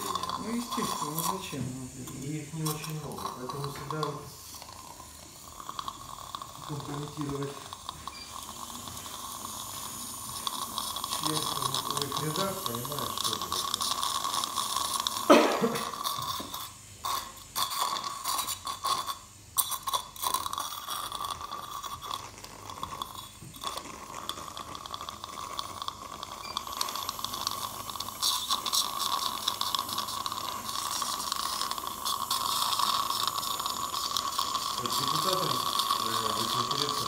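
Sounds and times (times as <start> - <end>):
dental drill whine: 0.0 - 37.0
suction hissing: 0.0 - 37.0.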